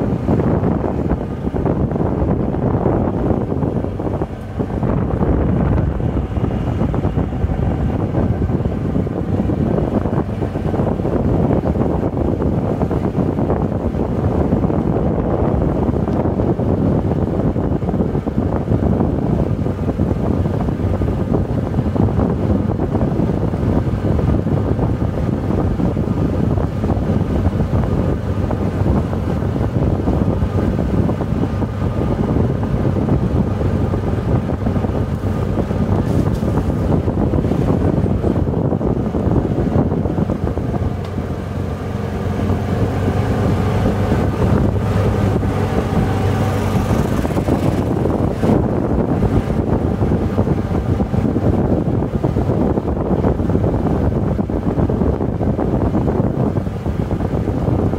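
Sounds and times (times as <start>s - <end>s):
golf cart rumbling on dirt road: 0.0s - 57.9s
wind buffeting microphone: 0.0s - 57.9s.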